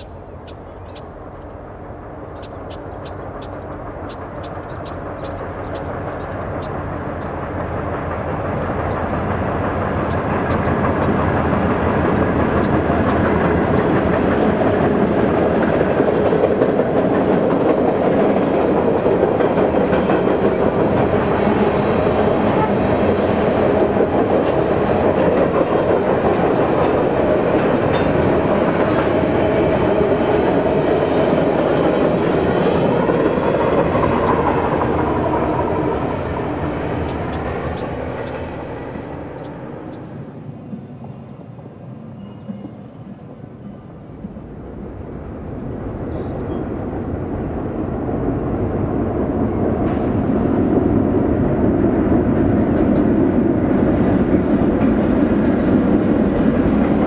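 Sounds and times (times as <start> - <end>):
freight train crossing steel bridge: 0.0 - 57.0.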